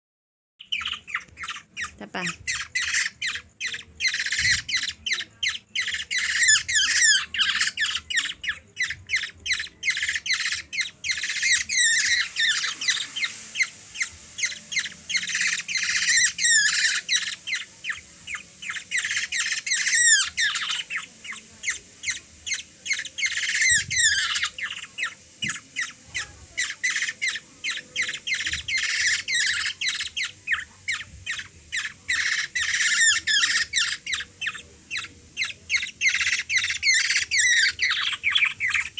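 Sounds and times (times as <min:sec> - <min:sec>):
baby bird squawking begging calls: 0:00.6 - 0:38.9.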